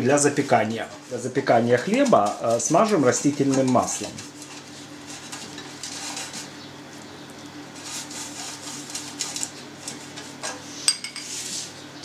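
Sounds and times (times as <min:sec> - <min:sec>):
pastry brush on metal pans: 0:00.0 - 0:06.6, 0:07.6 - 0:12.0.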